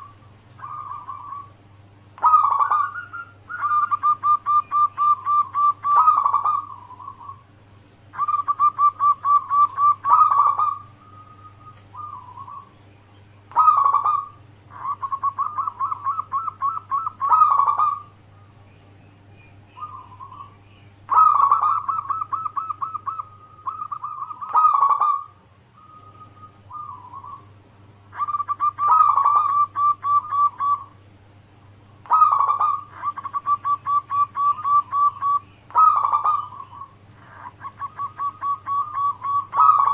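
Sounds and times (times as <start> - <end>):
zebra dove cooing: 0.0 - 12.7, 13.5 - 18.2, 19.7 - 25.4, 26.0 - 27.5, 28.1 - 31.0, 32.0 - 39.9.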